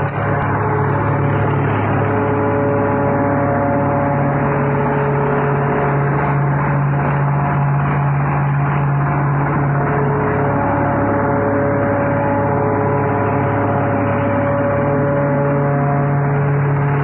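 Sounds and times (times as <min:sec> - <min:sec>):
wood chipper diesel engine running: 0:00.0 - 0:17.0.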